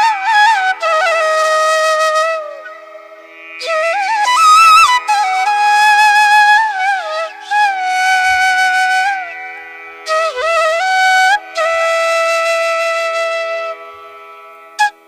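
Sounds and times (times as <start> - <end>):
flute melody: 0.0 - 3.0, 3.6 - 9.4, 10.0 - 14.2, 14.8 - 15.0.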